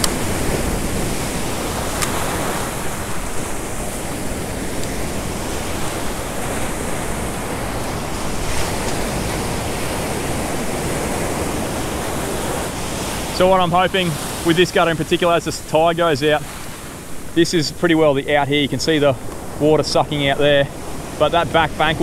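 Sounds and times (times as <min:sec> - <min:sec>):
ocean surf breaking: 0:00.0 - 0:22.0.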